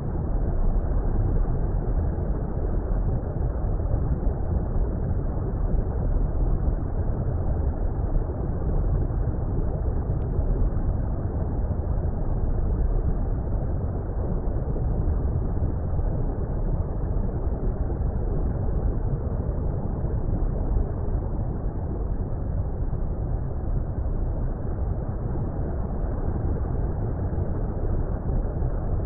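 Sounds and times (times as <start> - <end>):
muffled low water rumble: 0.0 - 29.0.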